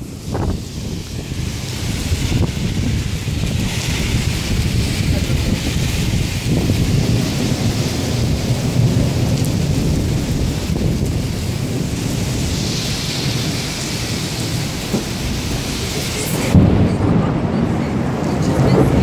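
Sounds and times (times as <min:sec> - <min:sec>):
rain falling: 0:00.0 - 0:19.0
thunder rumbling: 0:00.0 - 0:19.0.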